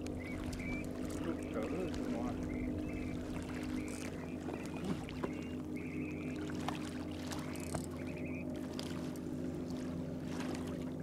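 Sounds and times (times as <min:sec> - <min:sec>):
low motor hum: 0:00.0 - 0:11.0
reel drag buzzing: 0:00.0 - 0:11.0.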